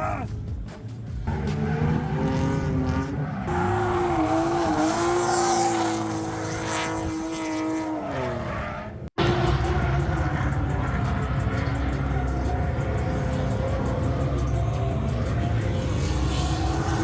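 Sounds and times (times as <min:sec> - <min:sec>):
car engine at high revs: 0:01.3 - 0:17.0.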